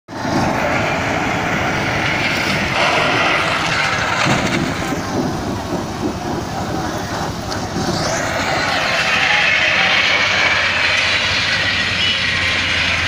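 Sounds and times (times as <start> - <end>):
vehicle road and engine noise: 0.1 - 13.0.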